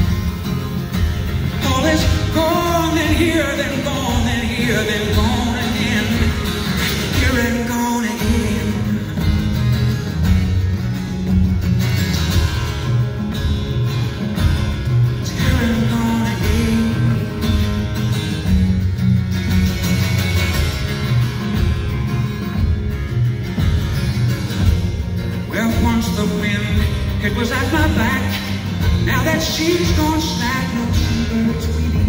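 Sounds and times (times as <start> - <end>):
acoustic guitar strumming: 0.0 - 32.0
drums beat: 0.0 - 32.0
electric guitar: 0.0 - 32.0.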